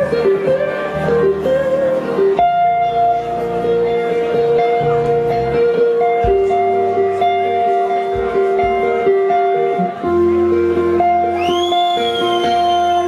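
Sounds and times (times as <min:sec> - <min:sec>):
blues-rock band playing: 0:00.0 - 0:13.0
electric guitar sustained notes: 0:00.0 - 0:13.0.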